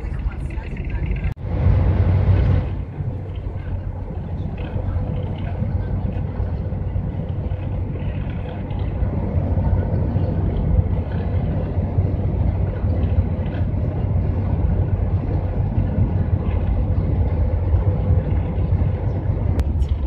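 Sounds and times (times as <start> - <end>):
van engine and tyres rumbling: 0.0 - 20.0.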